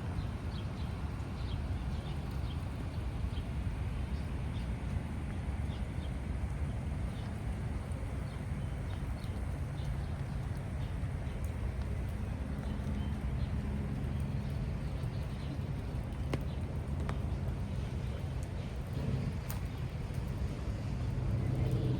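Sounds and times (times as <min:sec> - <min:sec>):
low outdoor rumble: 0:00.0 - 0:21.9
small birds chirping: 0:00.1 - 0:21.9
footsteps on wet path: 0:04.2 - 0:21.9.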